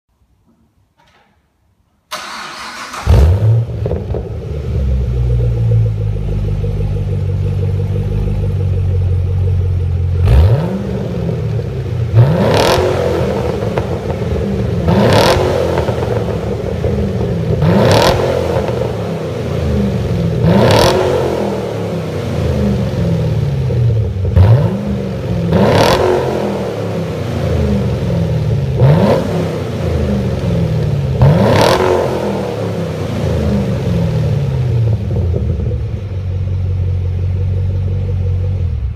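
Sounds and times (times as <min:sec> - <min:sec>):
car engine idling: 0:02.1 - 0:38.9
car engine revving: 0:02.1 - 0:38.9.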